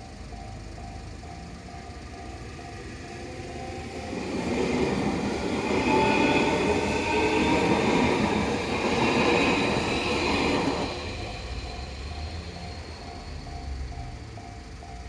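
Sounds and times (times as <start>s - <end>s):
train wheels clattering on rails: 1.3s - 15.0s.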